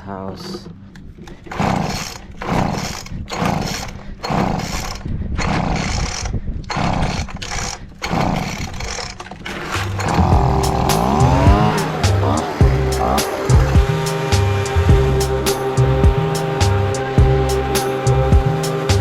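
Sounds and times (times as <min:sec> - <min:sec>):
leaf blower rushing air: 0:01.5 - 0:19.0.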